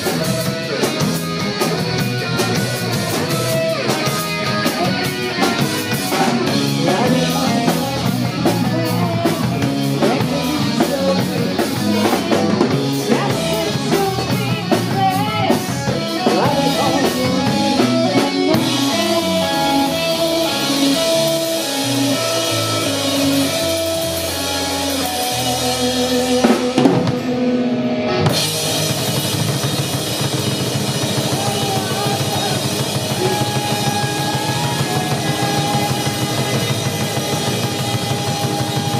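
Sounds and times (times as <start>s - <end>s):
drum kit and cymbals: 0.0s - 38.9s
live rock band playing: 0.0s - 38.9s.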